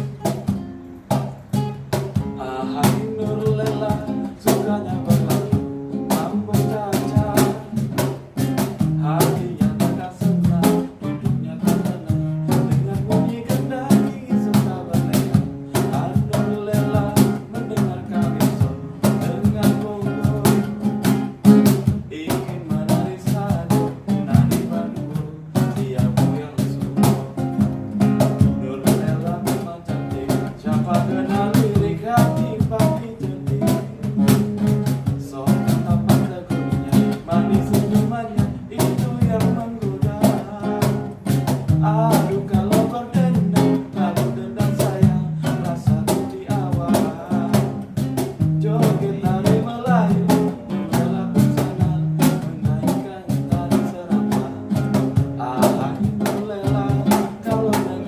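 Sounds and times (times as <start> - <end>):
acoustic guitar: 0.0 - 58.0
cajon beat: 0.0 - 58.0
person singing: 2.2 - 8.1, 8.9 - 21.1, 22.0 - 27.5, 28.2 - 58.0.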